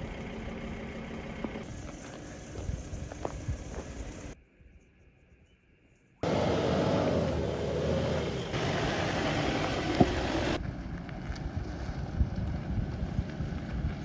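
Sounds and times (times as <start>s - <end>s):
vehicle engine and tyre noise: 0.0s - 4.4s, 6.2s - 14.0s.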